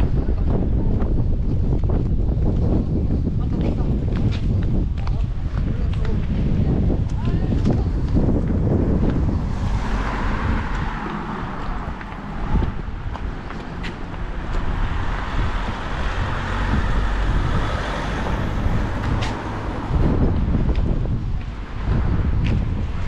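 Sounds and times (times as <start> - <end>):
steady rushing outdoor noise: 0.0 - 23.0
wind buffeting microphone: 0.0 - 23.0.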